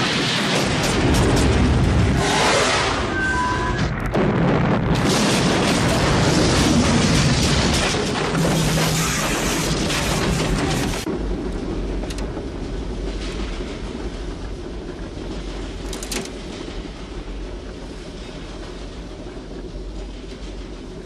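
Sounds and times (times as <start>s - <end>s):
diesel locomotive rumbling: 0.0s - 21.0s.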